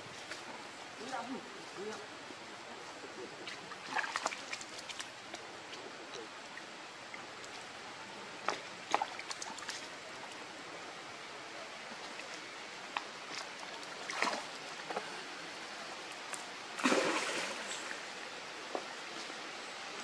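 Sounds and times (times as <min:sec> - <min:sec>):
rustle: 0:00.0 - 0:20.0
steady soft hiss: 0:00.0 - 0:20.0.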